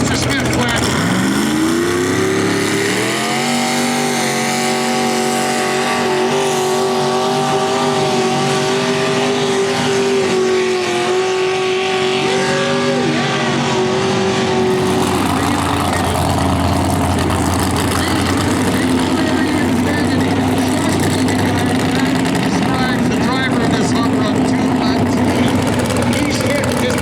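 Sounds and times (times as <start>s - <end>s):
tractor engine revving: 0.0s - 27.0s.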